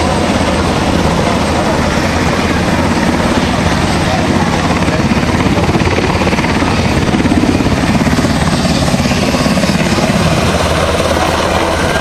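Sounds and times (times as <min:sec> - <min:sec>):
helicopter rotor blades beating: 0:00.0 - 0:12.0
turbine engine whine: 0:00.0 - 0:12.0.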